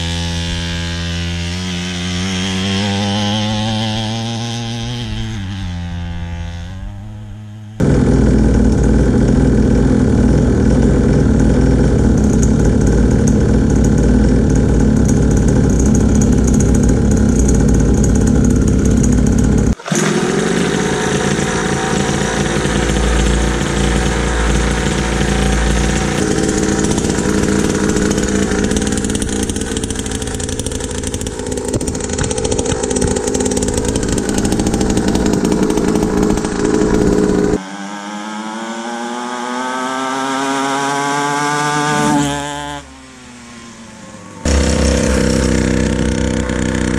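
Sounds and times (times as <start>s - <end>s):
two-stroke dirt bike engine running: 0.0s - 42.8s, 44.4s - 46.9s.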